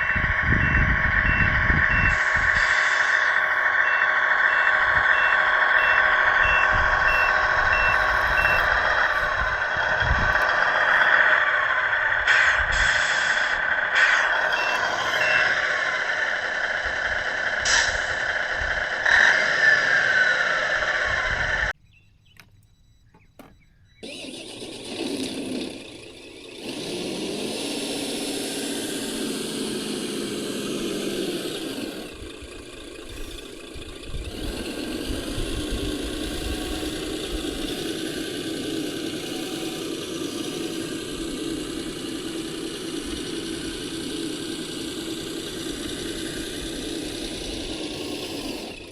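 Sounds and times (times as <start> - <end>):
electric motor and gear whine: 0.0 - 48.9
low engine-like sound: 0.0 - 48.9.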